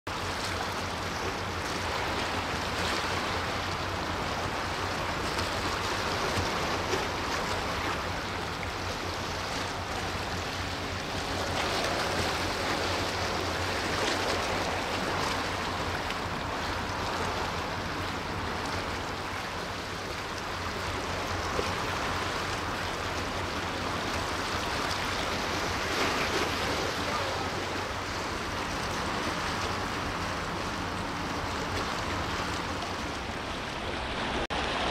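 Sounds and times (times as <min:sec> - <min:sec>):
seawater and small waves rushing: 0:00.1 - 0:34.9.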